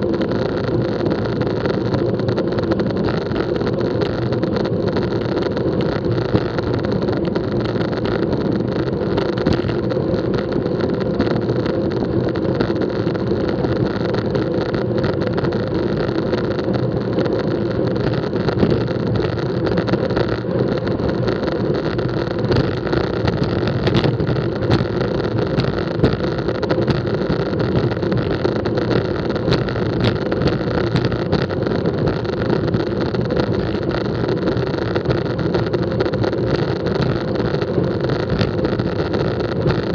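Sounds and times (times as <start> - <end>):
bicycle tyres rolling on asphalt: 0.0 - 39.9
small clicks and rattles: 0.0 - 39.9
wind rushing over microphone: 0.0 - 39.9.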